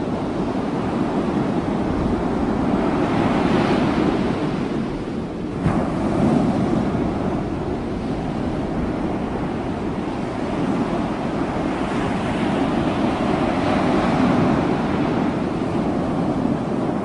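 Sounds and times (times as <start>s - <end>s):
ocean surf washing: 0.0s - 17.0s
wind on microphone: 0.0s - 17.0s.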